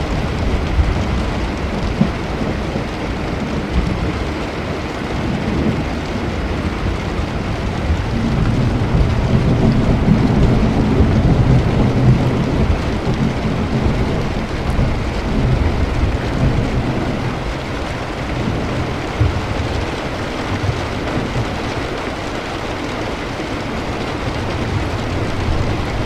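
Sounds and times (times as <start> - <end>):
low roll of thunder: 0.0 - 26.0
steady rain: 0.0 - 26.0.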